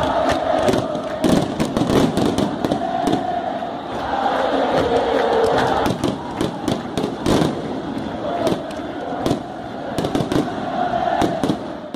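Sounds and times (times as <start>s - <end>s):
firecrackers going off: 0.0s - 3.4s, 4.8s - 10.6s, 11.2s - 11.9s
stadium crowd noise: 0.0s - 11.9s.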